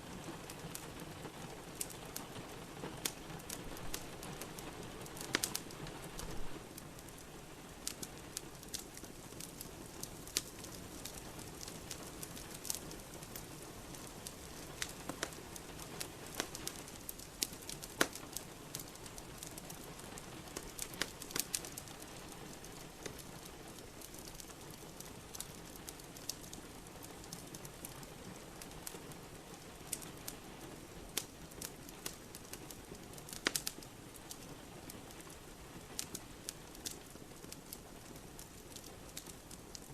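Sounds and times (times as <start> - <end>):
rain hiss: 0.0 - 39.9
wood fire crackling: 0.0 - 39.9.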